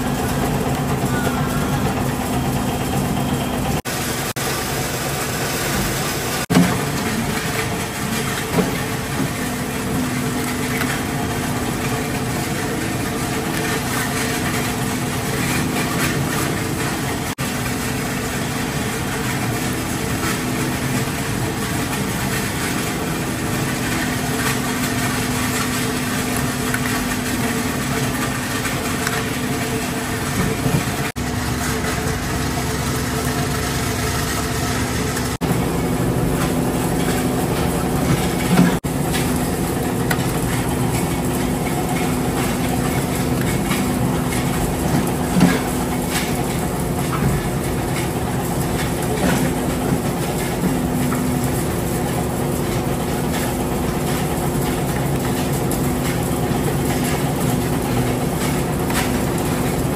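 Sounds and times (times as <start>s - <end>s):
machine humming: 0.0s - 59.9s.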